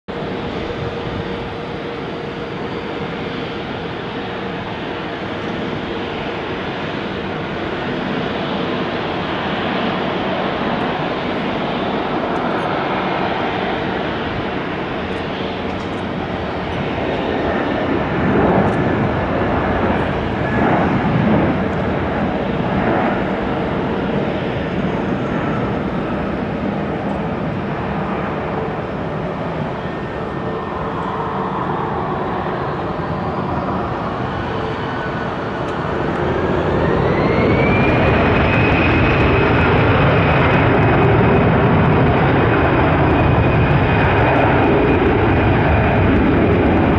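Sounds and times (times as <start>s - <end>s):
jet engines with whine: 0.1s - 46.9s.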